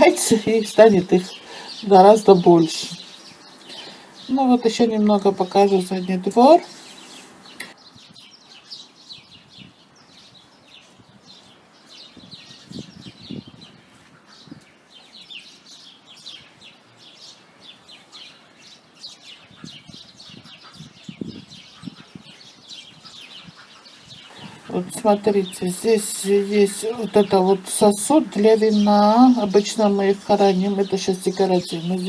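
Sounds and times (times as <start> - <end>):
sparrows chirping: 0.0 - 32.0.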